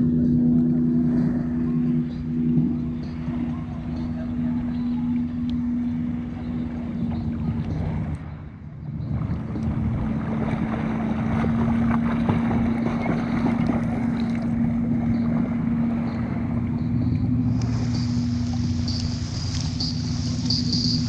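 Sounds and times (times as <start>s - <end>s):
steady motor hum: 0.0s - 21.0s
water splashing and sloshing: 0.0s - 21.0s.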